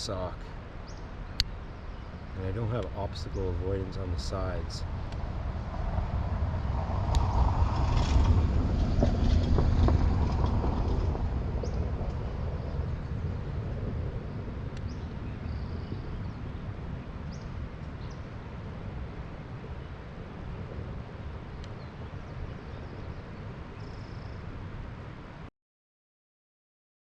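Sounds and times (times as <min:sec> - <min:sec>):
low rumbling noise: 0:00.0 - 0:25.5.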